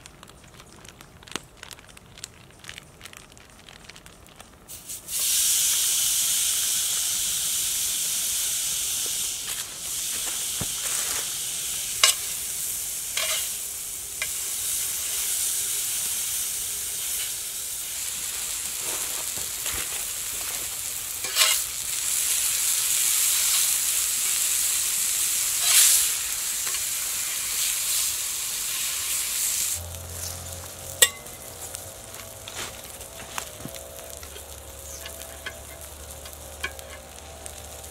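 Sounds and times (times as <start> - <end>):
meat sizzling in a skillet: 4.1 - 37.9.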